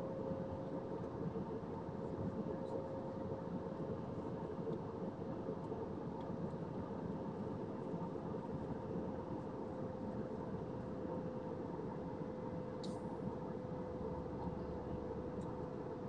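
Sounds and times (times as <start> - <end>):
jet cabin airflow and engine noise: 0.0 - 16.0.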